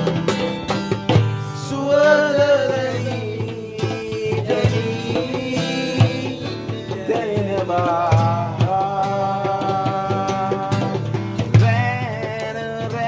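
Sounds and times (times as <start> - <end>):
acoustic guitar strumming: 0.0 - 13.0
person singing: 1.6 - 13.0.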